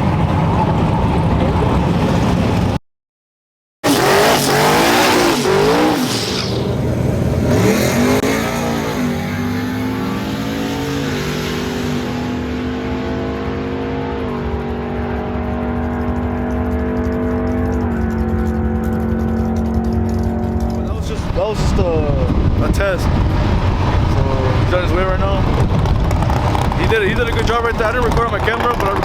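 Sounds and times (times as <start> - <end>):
truck engine revving: 3.8 - 29.0.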